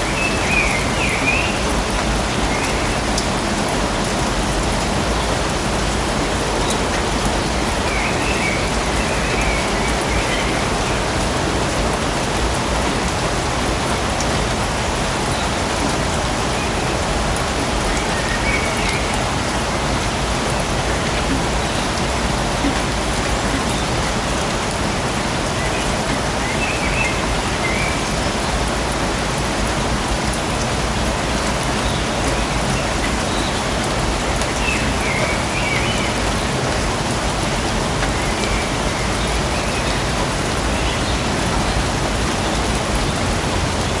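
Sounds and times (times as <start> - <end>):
steady rain falling: 0.0 - 44.0.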